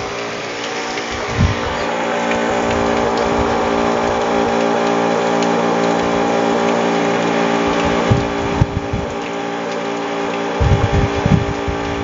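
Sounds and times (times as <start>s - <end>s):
electric pump motor hum: 0.0s - 12.0s
water jets splashing on concrete: 0.0s - 12.0s.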